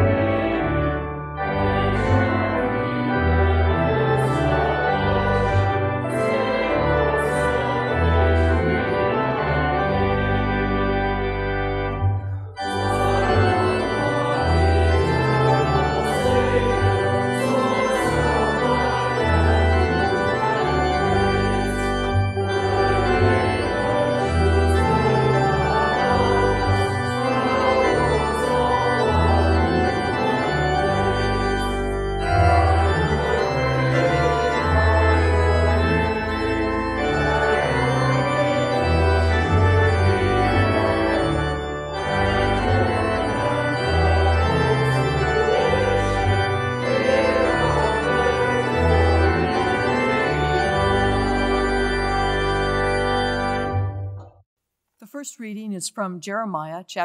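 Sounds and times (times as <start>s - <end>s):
organ playing a hymn: 0.0s - 54.4s.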